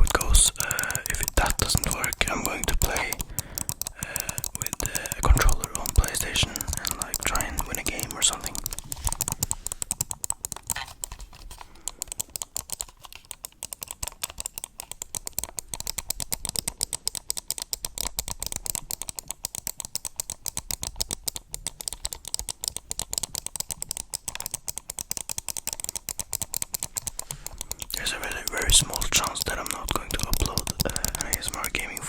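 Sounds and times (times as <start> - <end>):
rapid keyboard typing: 0.0 - 32.0.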